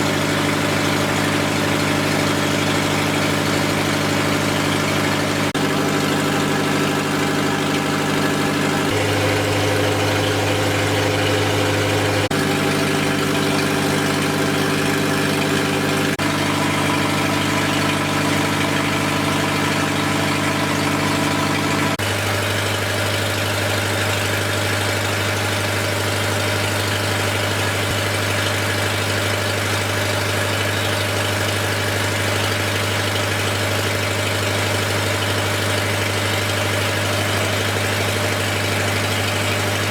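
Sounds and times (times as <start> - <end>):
loud diesel generator running: 0.0 - 39.9.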